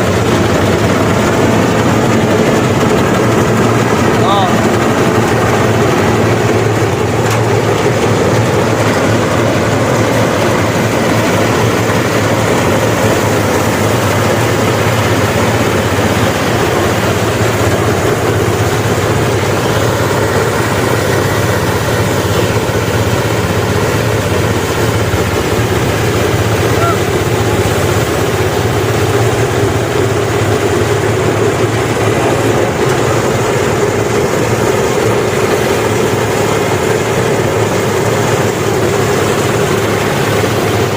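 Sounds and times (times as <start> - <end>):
engine hum: 0.0 - 40.9
threshing drum rattling: 0.0 - 40.9.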